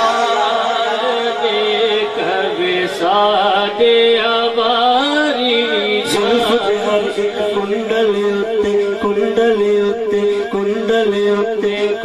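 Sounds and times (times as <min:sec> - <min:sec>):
devotional music: 0:00.0 - 0:12.0
person singing ornamented notes: 0:00.0 - 0:12.0.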